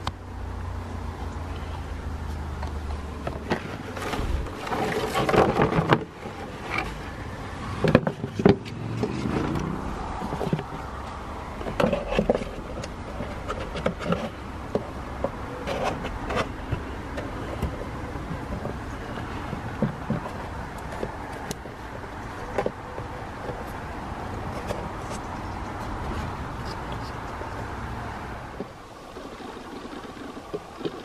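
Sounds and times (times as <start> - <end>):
scraping and rustling: 2.3 - 27.8.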